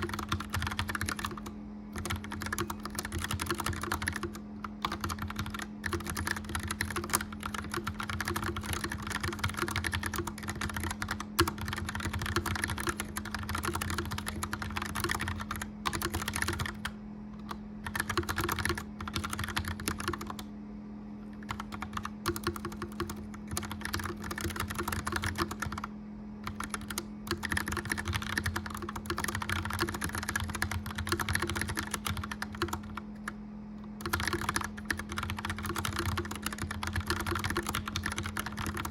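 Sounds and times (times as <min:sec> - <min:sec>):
clicky keyboard typing: 0:00.0 - 0:20.5, 0:21.3 - 0:38.9
fireplace fan humming: 0:00.0 - 0:38.9.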